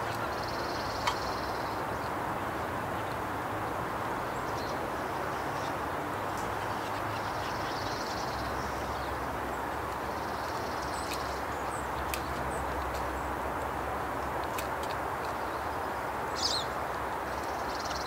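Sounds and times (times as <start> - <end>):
birds chirping: 0.0 - 3.2, 4.2 - 18.0.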